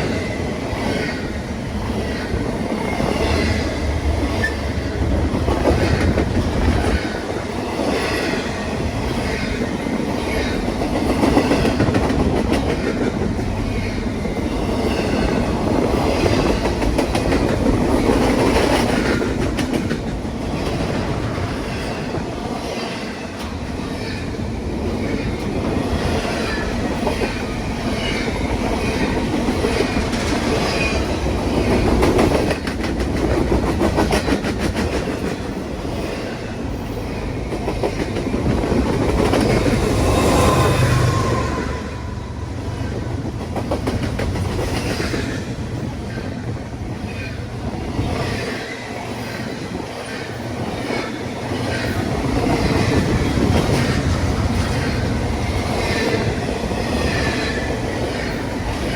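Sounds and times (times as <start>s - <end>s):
train wheels clattering over rails: 0.0s - 41.8s, 42.5s - 58.9s.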